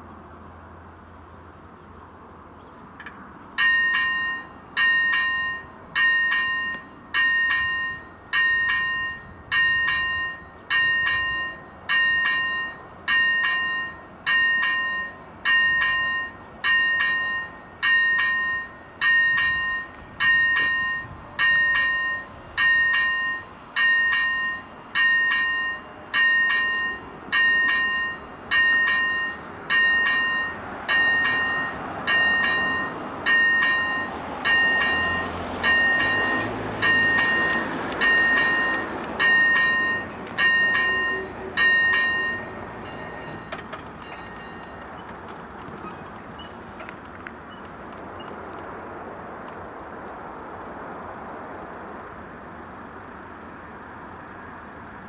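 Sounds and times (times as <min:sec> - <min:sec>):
level crossing warning bell dinging: 0:03.6 - 0:48.3.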